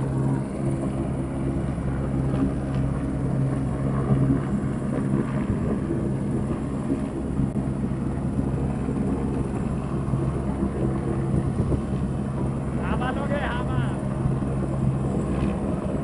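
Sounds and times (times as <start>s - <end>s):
engine humming steadily: 0.0s - 16.0s
wind noise on microphone: 0.0s - 16.0s.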